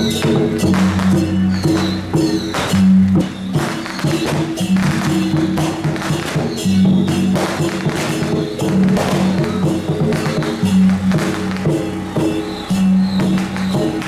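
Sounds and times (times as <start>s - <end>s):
held low notes: 0.0s - 14.0s
sharp percussion strokes: 0.0s - 14.0s.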